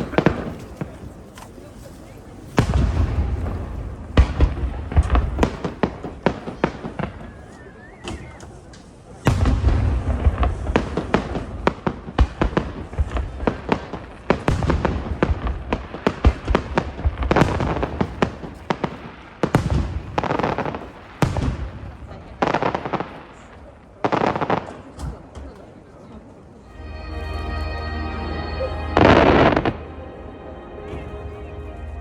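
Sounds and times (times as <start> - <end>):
fireworks booming and crackling: 0.0 - 25.9.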